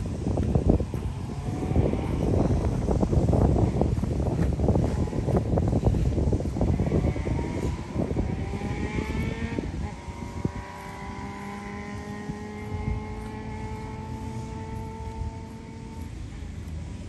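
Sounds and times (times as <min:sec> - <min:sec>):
vehicle engine hum: 0:00.0 - 0:17.0
wind buffeting microphone: 0:00.0 - 0:17.0.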